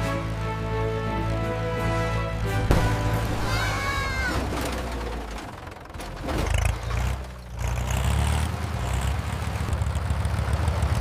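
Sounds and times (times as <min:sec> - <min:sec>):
tractor engine rumbling: 0:00.1 - 0:11.0.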